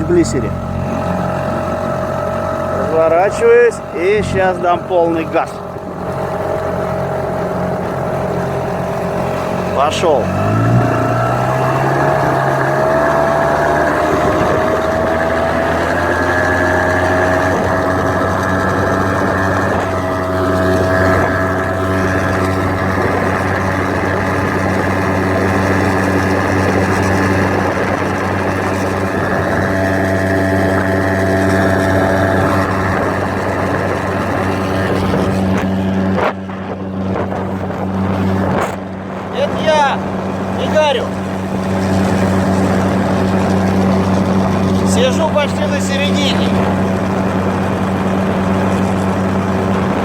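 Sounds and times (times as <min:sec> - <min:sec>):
outboard motor at full throttle: 0:00.0 - 0:50.0.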